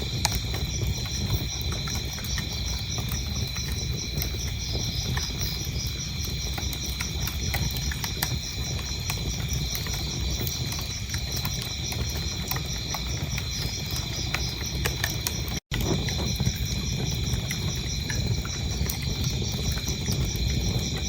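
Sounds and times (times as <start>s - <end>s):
crickets chirping: 0.0s - 21.0s
wood fire crackling: 0.0s - 21.0s.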